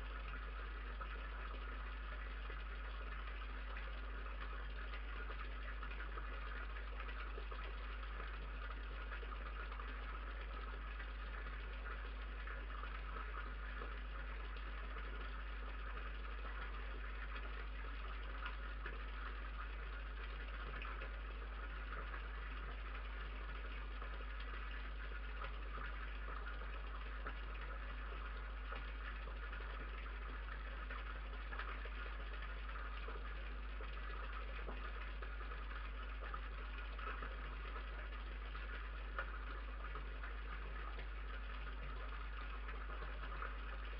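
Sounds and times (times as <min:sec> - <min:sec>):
electrical hum and hiss: 0:00.0 - 0:43.9.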